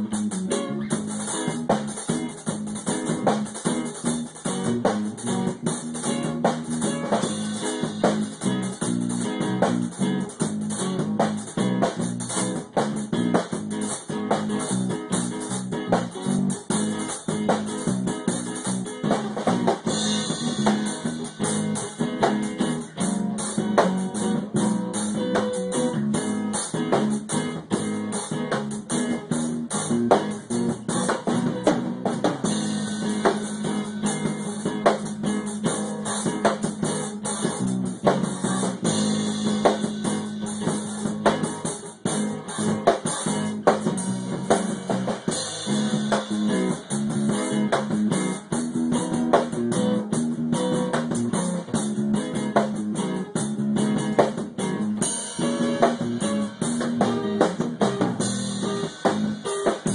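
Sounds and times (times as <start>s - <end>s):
drum kit beat: 0.0s - 59.9s
guitar-driven music: 0.0s - 59.9s.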